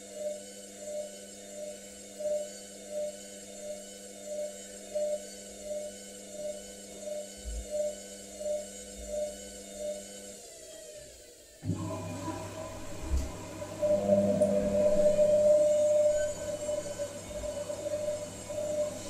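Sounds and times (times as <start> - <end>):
washing machine drum motor whining: 0.9 - 19.0.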